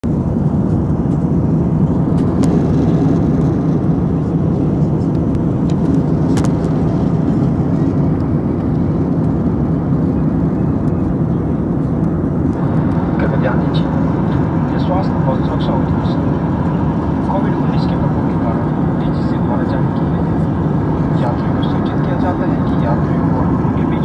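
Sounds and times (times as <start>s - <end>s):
jet engines droning: 0.0s - 24.0s.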